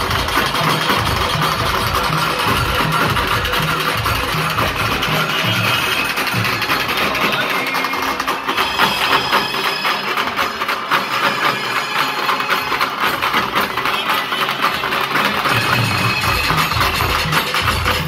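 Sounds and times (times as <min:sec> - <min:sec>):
drums playing fast beat: 0:00.0 - 0:18.0.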